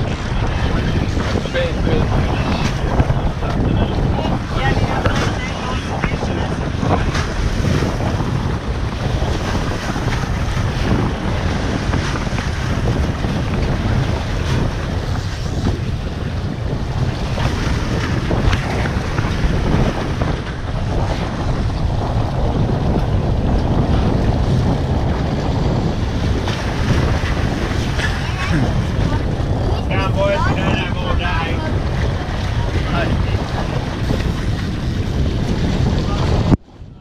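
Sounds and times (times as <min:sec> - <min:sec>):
boat noise: 0:00.0 - 0:37.0
sea water: 0:00.0 - 0:37.0
wind buffeting microphone: 0:00.0 - 0:37.0.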